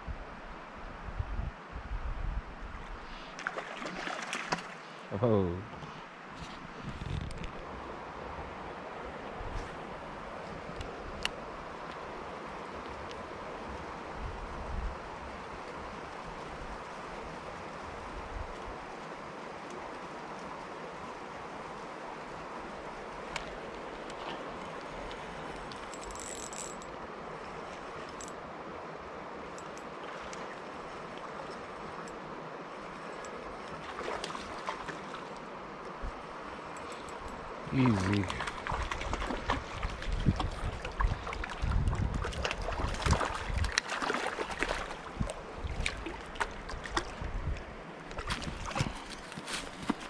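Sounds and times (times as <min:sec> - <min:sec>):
river water running: 0:02.7 - 0:50.0.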